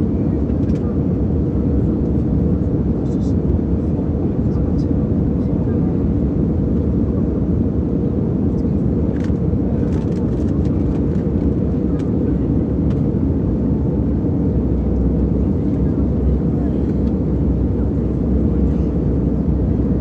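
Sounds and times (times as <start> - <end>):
airliner cabin engine drone: 0.0 - 20.0
faint passenger voices: 0.0 - 20.0.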